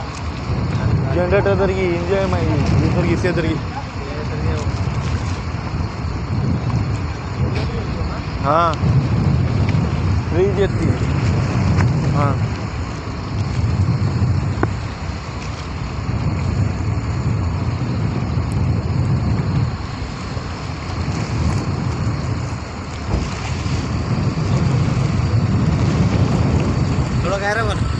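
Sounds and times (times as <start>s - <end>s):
boat engine running: 0.0s - 27.9s
sea: 0.0s - 27.9s
wind buffeting microphone: 0.0s - 27.9s.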